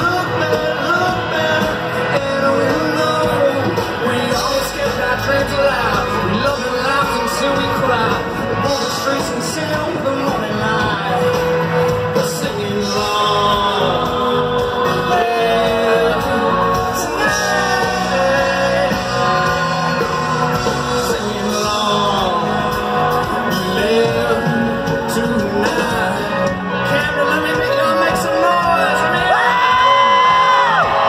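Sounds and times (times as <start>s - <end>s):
live country band: 0.0s - 31.0s
man singing lead vocal: 0.0s - 31.0s.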